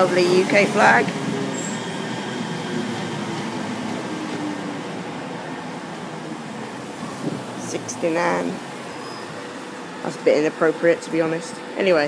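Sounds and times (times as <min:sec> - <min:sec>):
train wheels rumbling on rail: 0:00.0 - 0:11.8.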